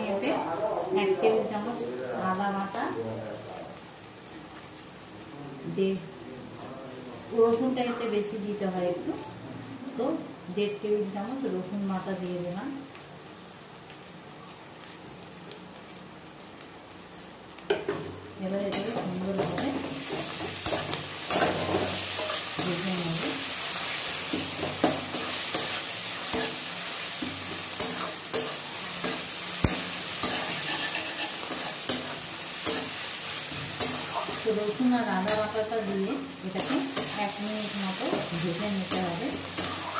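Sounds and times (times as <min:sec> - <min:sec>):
onions sizzling in hot oil: 0:00.0 - 0:39.9.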